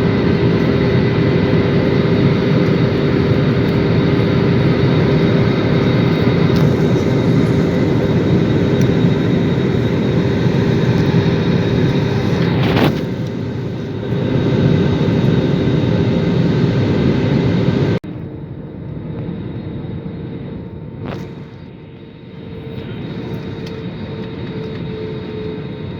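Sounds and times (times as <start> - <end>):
airliner cabin drone: 0.0 - 25.9.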